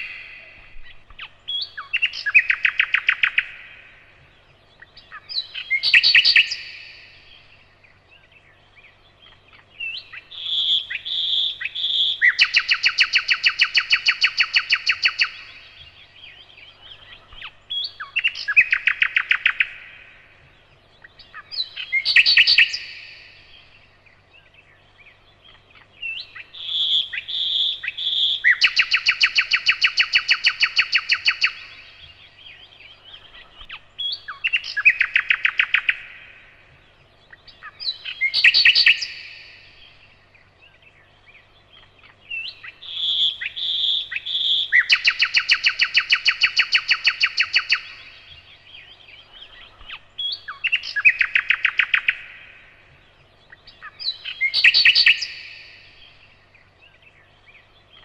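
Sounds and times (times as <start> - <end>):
faint low hum: 0.0 - 58.0
nightingale singing: 0.0 - 58.0.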